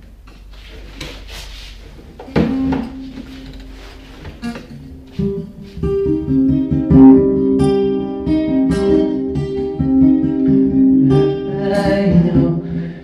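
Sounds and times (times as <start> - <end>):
plucked string notes: 2.0 - 13.0.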